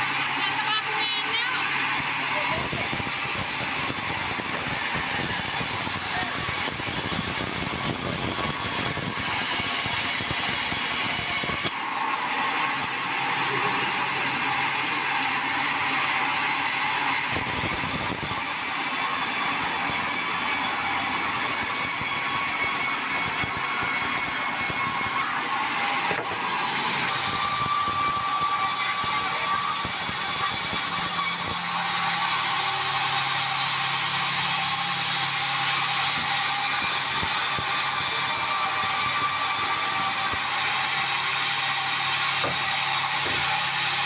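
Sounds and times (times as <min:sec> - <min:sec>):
sawmill machine running: 0:00.0 - 0:44.0
saw blade rasping through wood: 0:01.4 - 0:11.8, 0:12.6 - 0:44.0.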